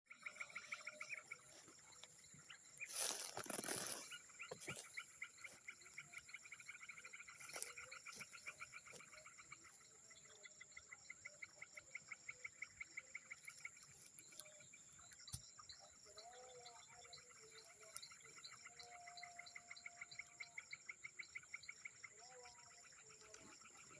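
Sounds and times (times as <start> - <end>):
high-pitched insect drone: 0.1 - 21.6
frogs calling: 0.1 - 23.9.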